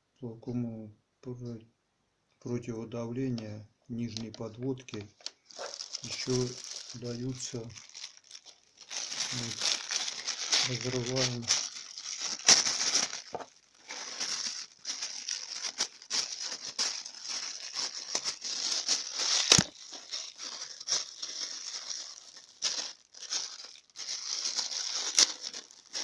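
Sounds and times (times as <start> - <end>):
packaging tearing and crinkling: 5.2 - 26.0.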